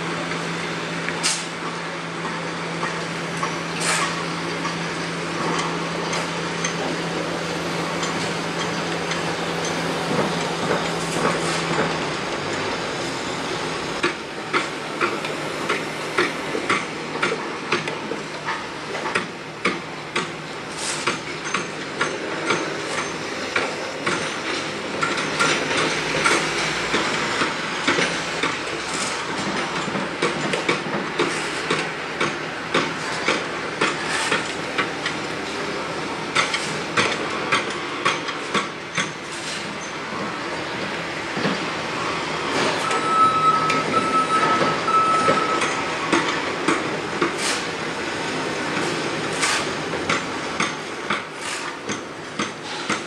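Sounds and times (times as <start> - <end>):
traffic: 0.0 - 53.0.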